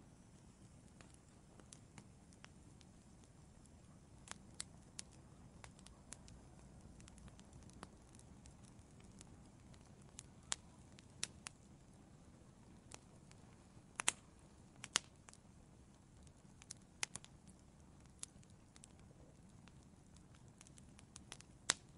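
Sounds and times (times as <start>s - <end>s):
wood fire crackling: 0.0s - 21.9s
sharp pops of fire: 0.2s - 21.9s.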